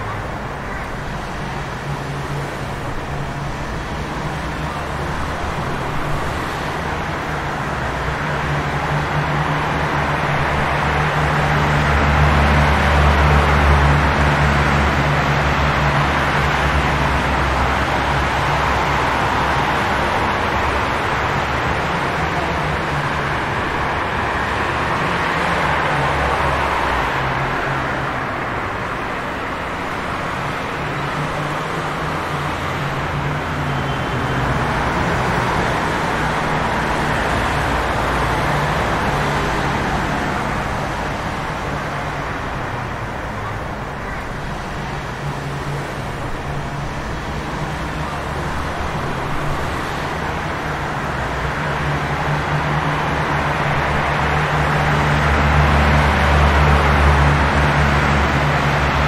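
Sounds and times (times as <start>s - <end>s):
car engines rumbling: 0.0s - 59.0s.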